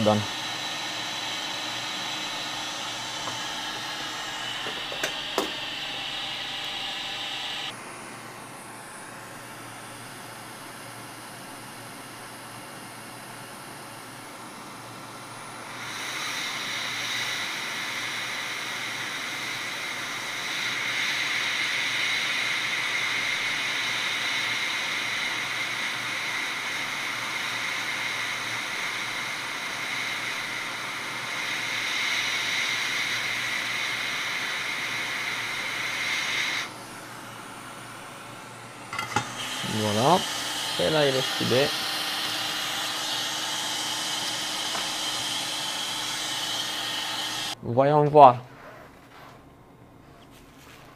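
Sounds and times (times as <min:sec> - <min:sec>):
hot air blower hissing and whining: 0:00.0 - 0:47.6.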